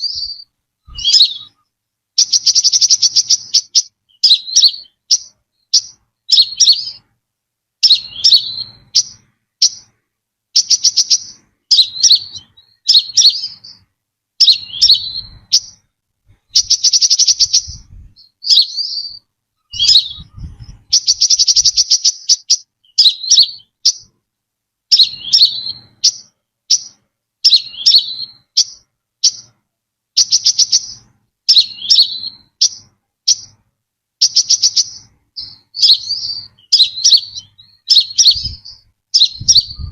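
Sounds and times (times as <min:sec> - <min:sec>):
rapid bird trills: 0:00.0 - 0:07.1, 0:07.8 - 0:10.0, 0:10.6 - 0:24.2, 0:24.9 - 0:29.6, 0:30.2 - 0:33.6, 0:34.2 - 0:39.9
bird chirping: 0:00.0 - 0:07.2, 0:07.8 - 0:24.2, 0:24.9 - 0:39.9.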